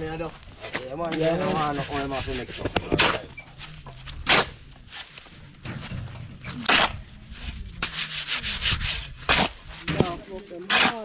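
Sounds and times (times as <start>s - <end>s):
hand tool scraping concrete: 0.6s - 5.3s, 6.4s - 11.0s.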